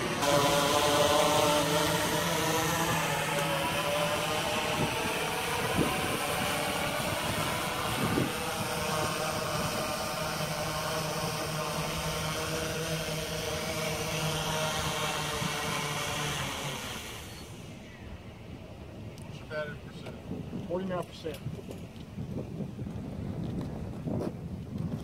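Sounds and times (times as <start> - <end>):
drone propellers buzzing: 0.0 - 20.6.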